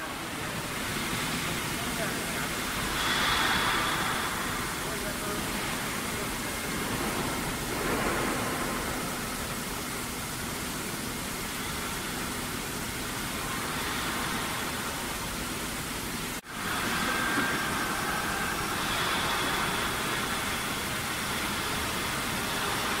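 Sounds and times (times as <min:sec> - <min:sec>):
factory machinery hiss: 0:00.0 - 0:23.0.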